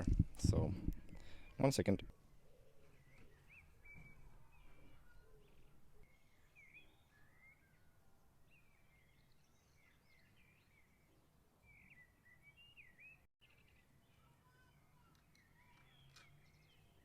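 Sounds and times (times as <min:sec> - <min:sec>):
low steady background noise: 0:00.0 - 0:17.0
small birds chirping: 0:00.0 - 0:17.0.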